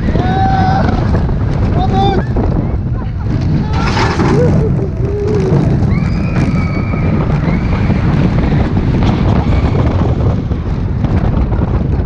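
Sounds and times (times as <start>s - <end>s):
roller coaster rumbling on track: 0.0s - 12.0s
wind on microphone: 0.0s - 12.0s.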